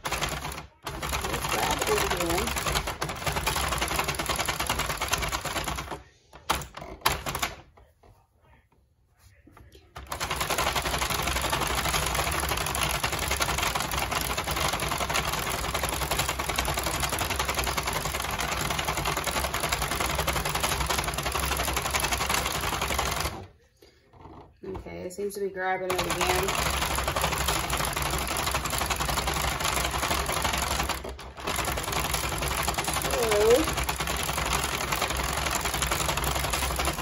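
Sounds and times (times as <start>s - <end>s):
knitting machine clicks: 0.0s - 7.6s, 10.0s - 23.5s, 25.9s - 37.0s
knitting machine needles clattering: 0.0s - 7.8s, 9.8s - 25.1s, 25.8s - 37.0s.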